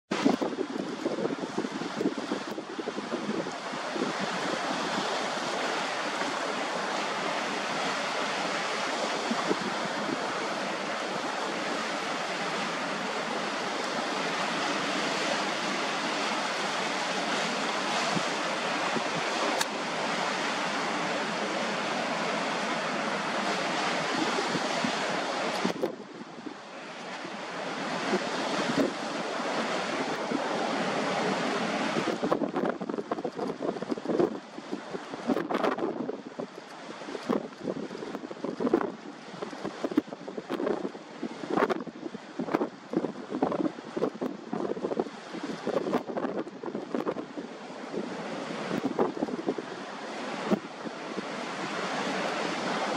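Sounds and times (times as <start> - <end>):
choppy water: 0.1 - 52.9
wind on microphone: 0.1 - 52.9.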